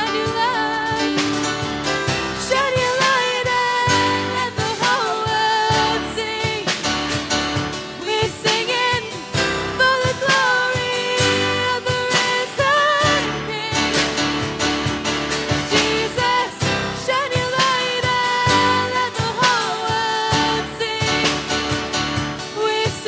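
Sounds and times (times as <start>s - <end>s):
instrumental backing: 0.0s - 23.0s
person singing: 0.0s - 23.0s.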